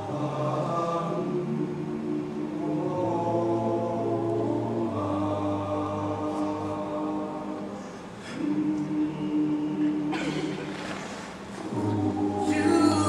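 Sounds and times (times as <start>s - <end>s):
male a cappella group singing: 0.0s - 13.0s.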